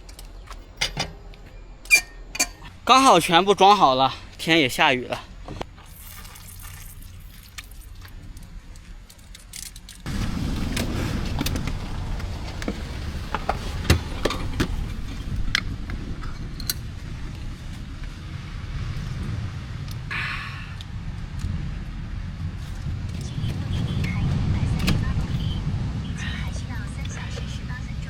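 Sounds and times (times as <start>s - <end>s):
vehicle low rumble: 0.0s - 28.0s.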